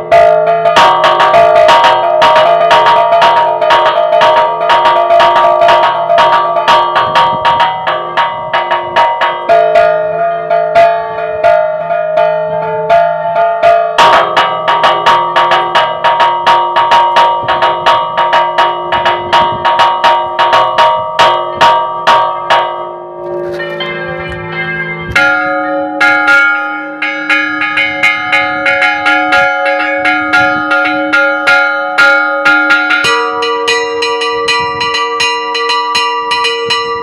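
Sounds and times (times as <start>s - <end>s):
church bells chiming rapidly: 0.0s - 37.0s.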